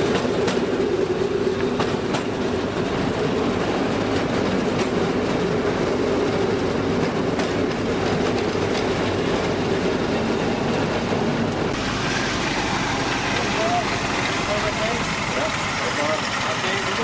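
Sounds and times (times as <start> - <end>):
engine drone: 0.0 - 17.0
wheels clicking over rail joints: 0.0 - 17.0.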